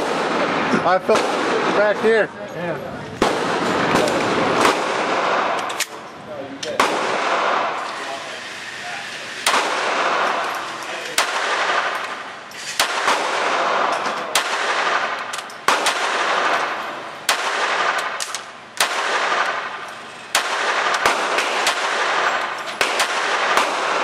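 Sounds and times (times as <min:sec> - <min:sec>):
pistol shots with reverberation: 0:00.0 - 0:02.1, 0:03.2 - 0:06.0, 0:06.6 - 0:07.8, 0:09.4 - 0:24.0.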